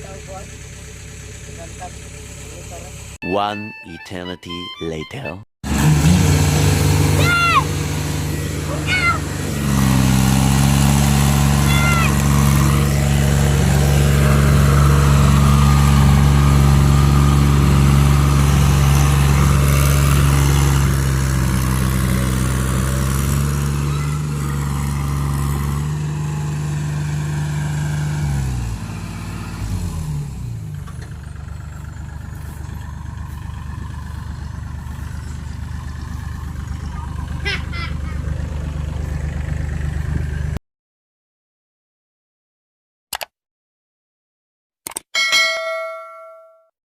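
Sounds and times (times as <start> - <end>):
heavy diesel engine under load: 0.0 - 3.2, 5.6 - 40.6.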